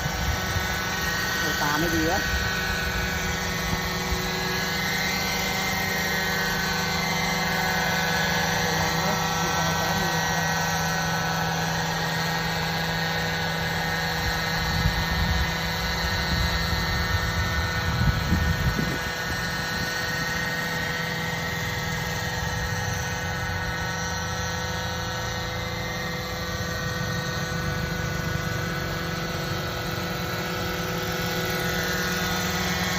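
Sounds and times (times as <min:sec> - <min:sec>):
drone rotors whirring: 0:00.0 - 0:32.9.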